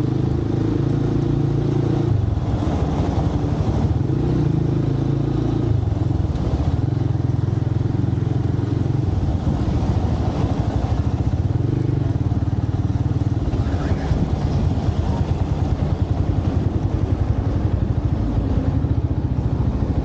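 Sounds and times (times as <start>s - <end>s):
motorcycle engine revving: 0.0s - 20.0s
road noise: 0.0s - 20.0s.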